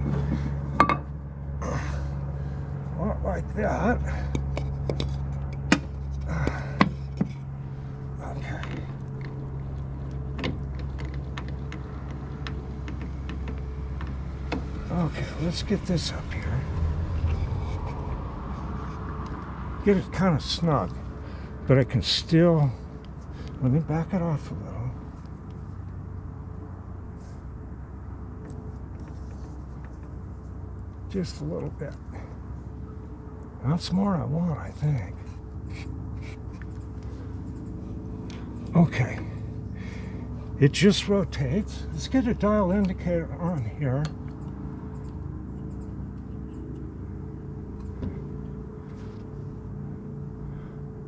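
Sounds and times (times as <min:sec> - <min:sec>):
faint steady hum: 0:00.0 - 0:51.0
low background rumble: 0:00.0 - 0:51.0.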